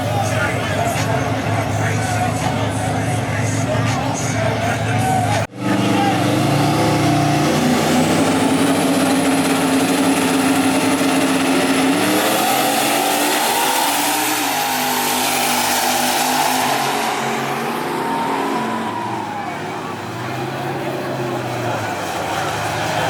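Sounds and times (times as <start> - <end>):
drag car engine accelerating: 0.0 - 23.0.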